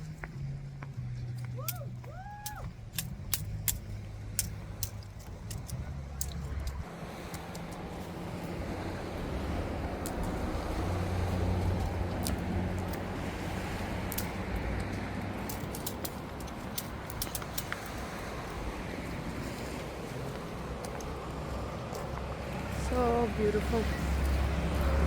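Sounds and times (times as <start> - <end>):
light clicks and jingles: 0.0 - 25.0
road noise: 0.0 - 25.0
vehicle engine running: 0.0 - 25.0.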